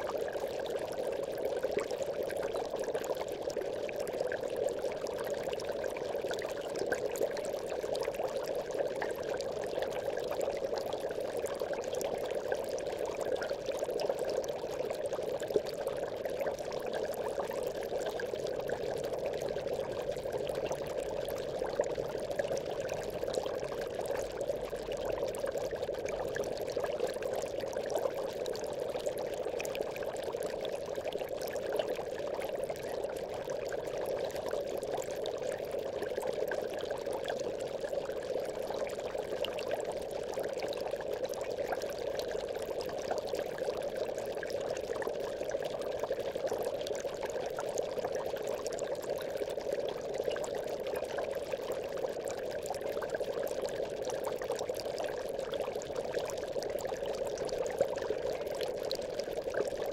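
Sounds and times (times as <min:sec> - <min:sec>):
aquarium water bubbling: 0:00.0 - 0:59.9.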